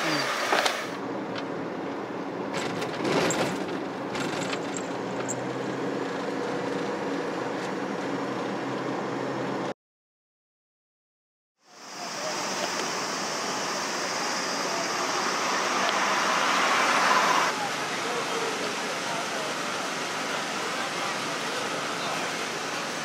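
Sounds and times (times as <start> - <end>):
van road and engine noise: 0.0 - 9.8, 11.8 - 23.0.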